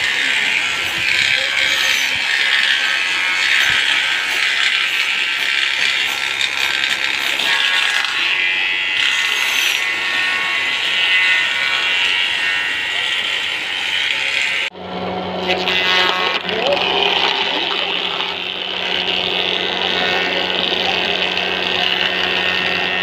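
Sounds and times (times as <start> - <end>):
machine whir: 0.0 - 23.0.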